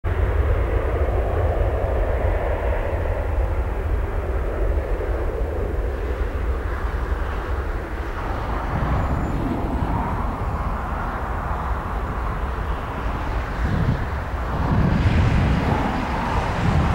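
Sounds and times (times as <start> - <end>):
airliner jet engine rumble: 0.0 - 16.9.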